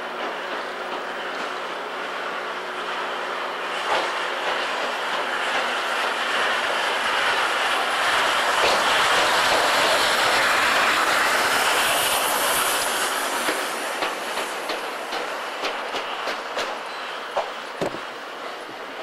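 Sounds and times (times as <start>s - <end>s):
locomotive rolling noise: 0.0s - 19.0s
steam hissing: 0.0s - 19.0s.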